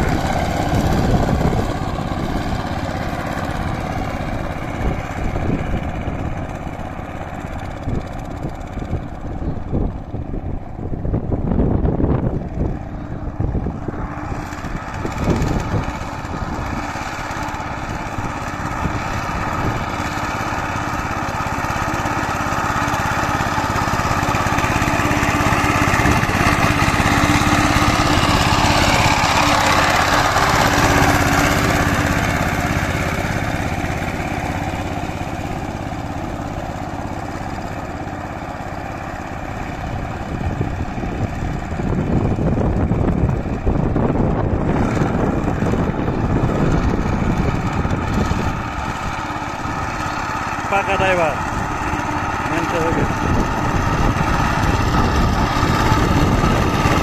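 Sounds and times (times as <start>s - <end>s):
power tiller diesel engine running: 0.0s - 57.0s.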